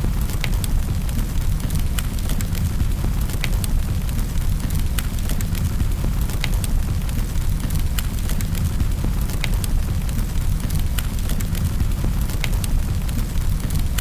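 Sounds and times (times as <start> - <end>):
burning logs crackling and popping: 0.0 - 14.0
fire flames rumbling: 0.0 - 14.0.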